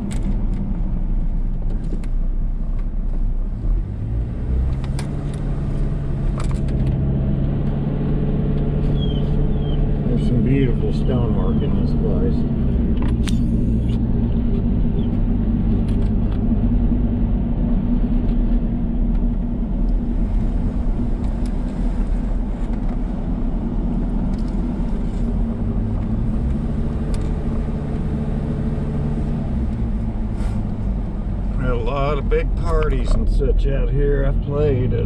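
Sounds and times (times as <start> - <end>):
car engine from inside cabin: 0.0 - 35.0
road noise: 0.0 - 35.0.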